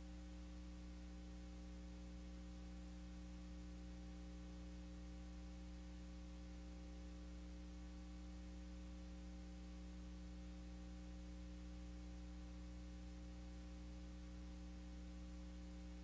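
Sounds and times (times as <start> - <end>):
faint tape hiss: 0.0 - 16.0
low electrical hum: 0.0 - 16.0.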